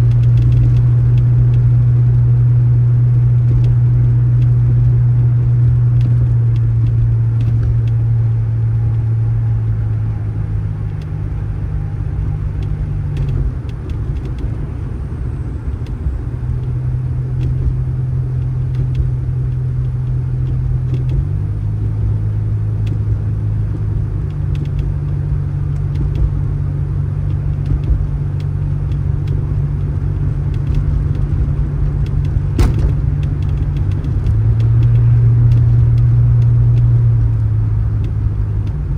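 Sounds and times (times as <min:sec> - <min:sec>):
vehicle engine and road drone: 0:00.0 - 0:38.9.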